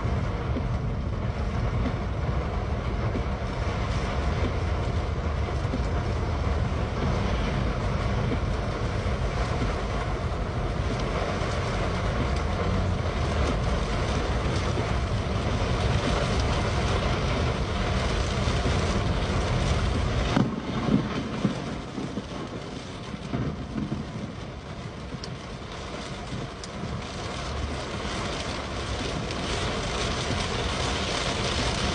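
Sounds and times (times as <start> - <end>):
heavy rain on a car: 0.0 - 31.9
road and engine rumble: 0.0 - 31.9.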